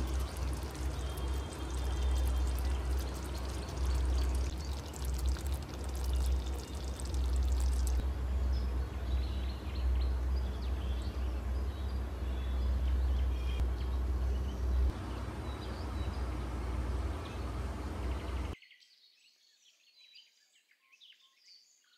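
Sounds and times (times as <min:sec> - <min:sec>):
rushing noise with low rumble: 0:00.0 - 0:18.6.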